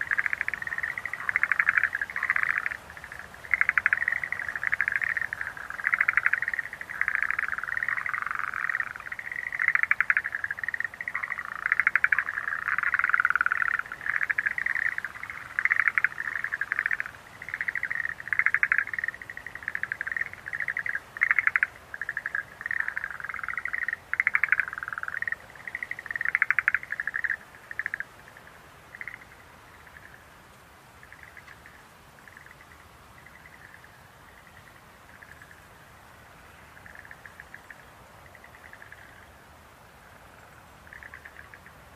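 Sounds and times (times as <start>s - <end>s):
frogs trilling: 0.0s - 30.3s, 31.0s - 41.8s.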